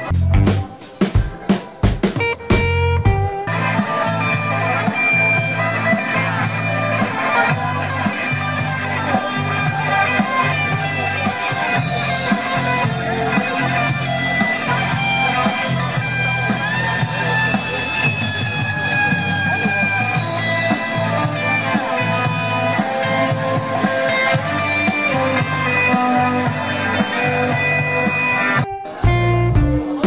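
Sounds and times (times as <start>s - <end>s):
repeating bass backing: 0.0s - 0.7s, 2.1s - 30.0s
electric guitar lead: 0.0s - 30.0s.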